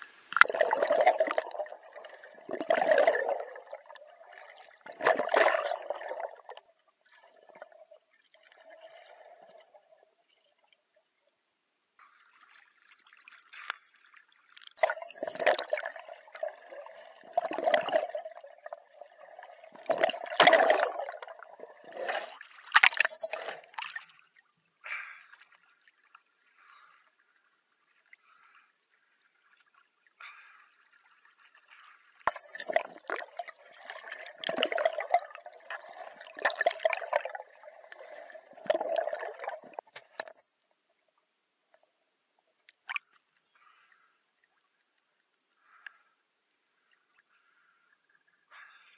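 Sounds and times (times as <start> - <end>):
water splashing and gurgling: 0.0 - 11.2, 12.1 - 40.9.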